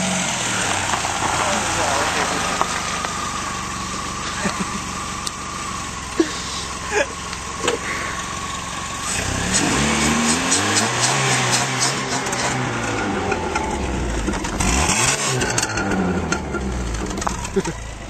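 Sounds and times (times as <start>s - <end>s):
car engine humming with whine: 0.0s - 18.0s.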